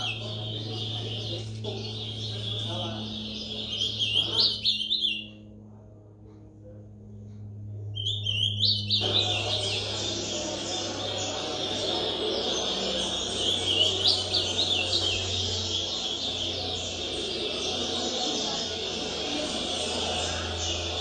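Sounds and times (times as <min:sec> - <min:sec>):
crowd noise: 0:00.0 - 0:05.2, 0:08.0 - 0:21.0
songbird whistling song: 0:00.0 - 0:05.4, 0:07.9 - 0:21.0
low steady hum: 0:00.0 - 0:21.0.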